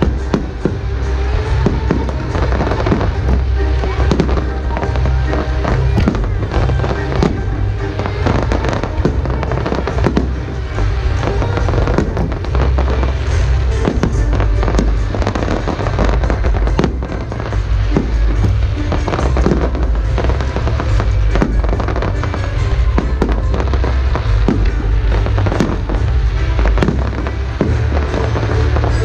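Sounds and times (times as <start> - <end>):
fireworks bangs and crackles: 0.0 - 29.0
loud music with heavy bass: 0.0 - 29.0.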